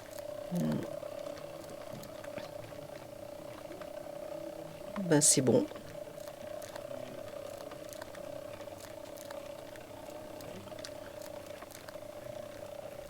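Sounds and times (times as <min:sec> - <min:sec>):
faint whirring mechanism hum: 0:00.0 - 0:13.0.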